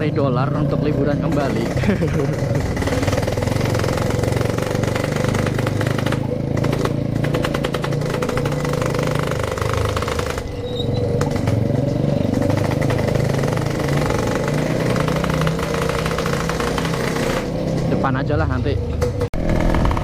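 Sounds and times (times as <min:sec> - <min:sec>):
two-stroke motorcycle engine: 0:00.0 - 0:20.0.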